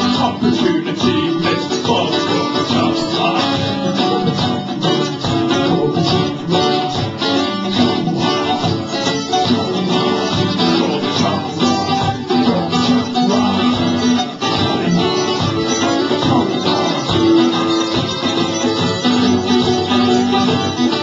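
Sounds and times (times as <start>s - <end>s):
plucked string instrument: 0.0s - 21.0s
strummed acoustic guitar: 0.0s - 21.0s.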